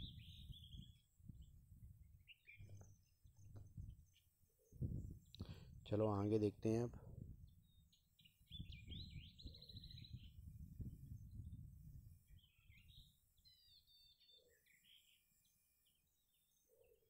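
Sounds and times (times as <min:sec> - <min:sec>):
bird chirps and trills: 0:00.0 - 0:06.4, 0:07.4 - 0:10.5, 0:11.1 - 0:17.0.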